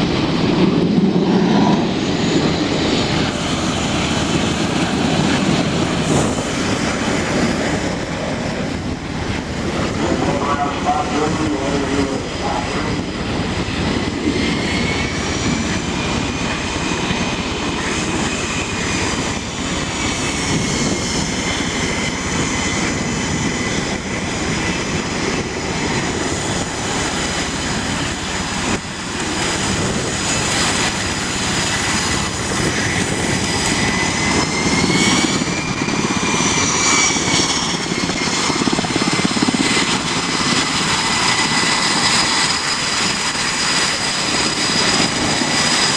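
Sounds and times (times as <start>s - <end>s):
high turbine whine: 0.0s - 45.9s
turbine engines roaring: 0.0s - 45.9s.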